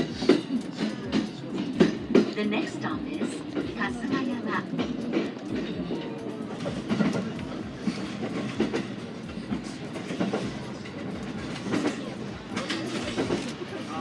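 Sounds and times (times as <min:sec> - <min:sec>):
train running rumble: 0:00.0 - 0:14.0
wheels clicking over rail joints: 0:00.0 - 0:14.0.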